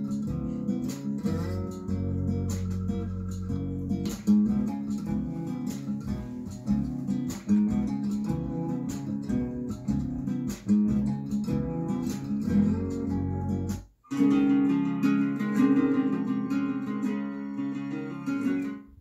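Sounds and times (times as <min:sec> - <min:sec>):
strummed acoustic guitar music: 0:00.0 - 0:19.0.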